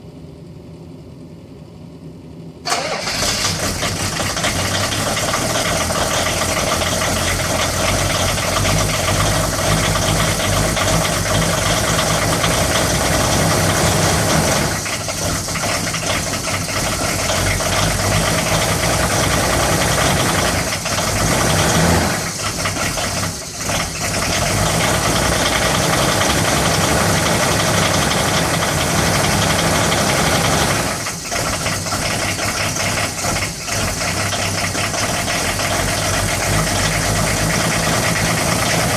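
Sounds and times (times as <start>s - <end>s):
diesel engine running: 2.6s - 38.9s.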